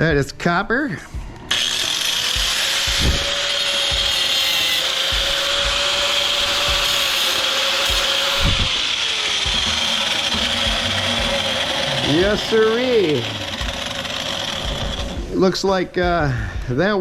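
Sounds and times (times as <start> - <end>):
power tool grinding wire: 1.5 - 15.4.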